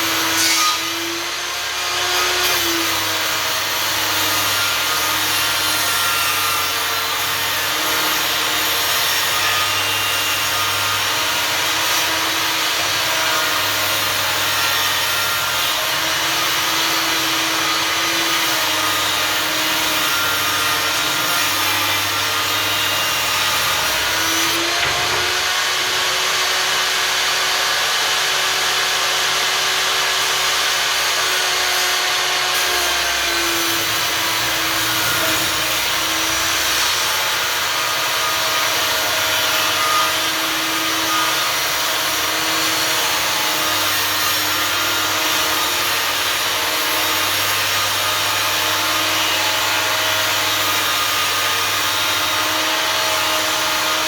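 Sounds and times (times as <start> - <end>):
table saw cutting wood: 0.0 - 54.0.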